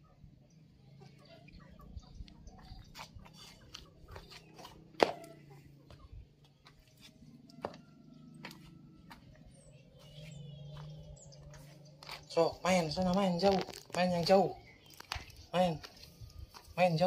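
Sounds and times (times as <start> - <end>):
footsteps on dirt and stone: 2.2 - 17.0.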